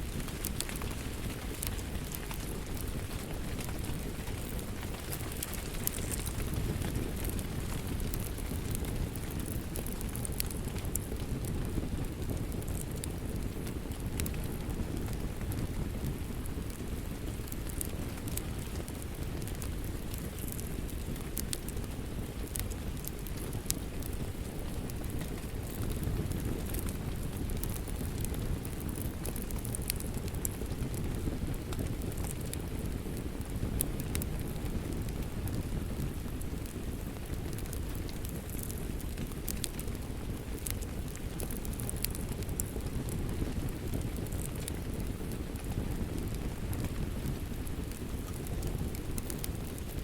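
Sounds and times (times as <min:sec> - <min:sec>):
steady rain: 0:00.0 - 0:50.0
wood fire crackling and popping: 0:00.0 - 0:50.0.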